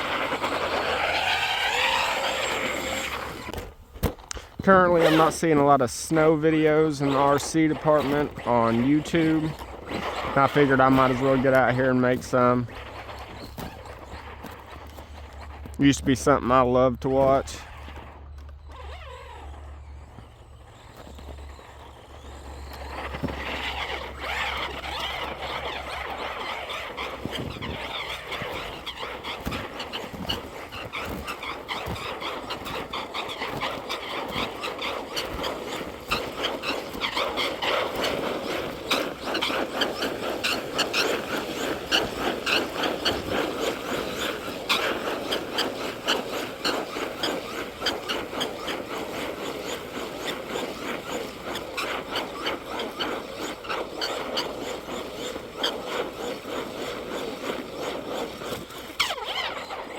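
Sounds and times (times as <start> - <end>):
tyres churning snow: 0.0 - 59.9.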